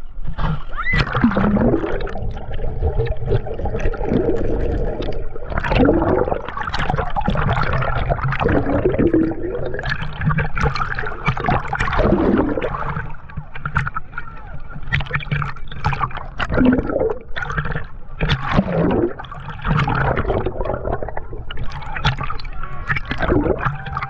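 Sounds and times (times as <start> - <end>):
muffled underwater water rushing: 0.0 - 24.0
underwater bubbling: 0.0 - 24.0.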